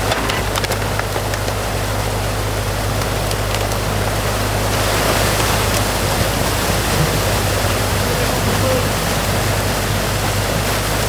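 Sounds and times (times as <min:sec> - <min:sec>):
excavator engine running: 0:00.0 - 0:11.0
water rushing: 0:00.0 - 0:11.0.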